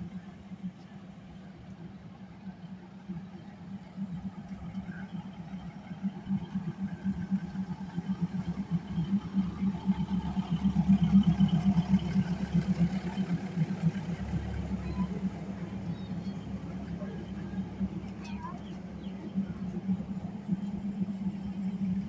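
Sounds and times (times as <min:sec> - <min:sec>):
diesel train engine idling: 0:00.0 - 0:22.0.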